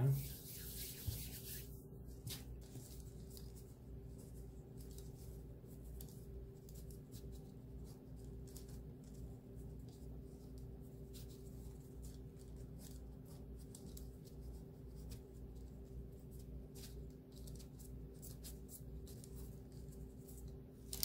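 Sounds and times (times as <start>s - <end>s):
steady low hum: 0.0s - 21.0s
wax paper rustling and crinkling: 0.0s - 21.0s.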